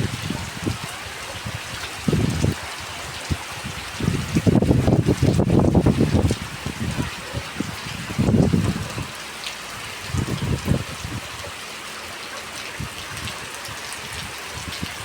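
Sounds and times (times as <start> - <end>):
wind buffeting microphone: 0.0 - 11.6, 12.7 - 15.0
heavy rain falling: 0.0 - 15.0.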